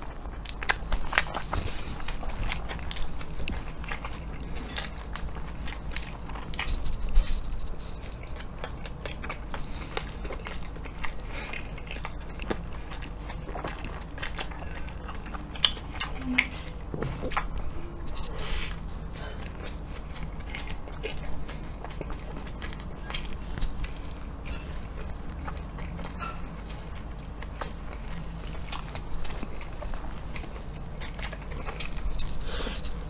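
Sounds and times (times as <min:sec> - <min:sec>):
chewing food: 0:00.0 - 0:33.0.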